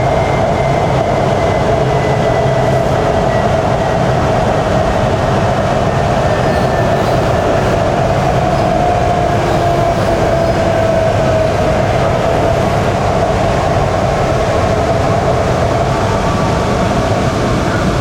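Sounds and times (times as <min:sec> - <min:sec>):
train wheels rumbling on rail: 0:00.0 - 0:18.0
train whine: 0:00.0 - 0:18.0.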